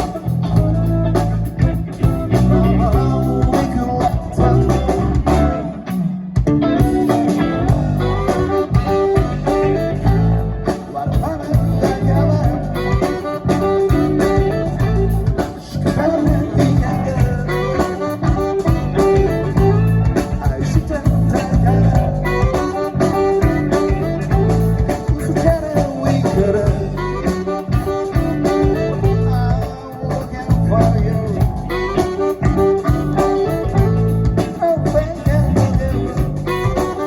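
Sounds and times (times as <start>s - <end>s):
electric guitar: 0.0s - 37.0s
live rock band playing: 0.0s - 37.0s.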